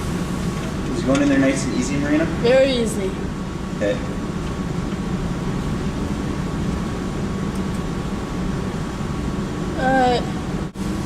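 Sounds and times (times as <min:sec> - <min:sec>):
faint high whine: 0:00.0 - 0:11.0
low machinery drone: 0:00.0 - 0:11.0.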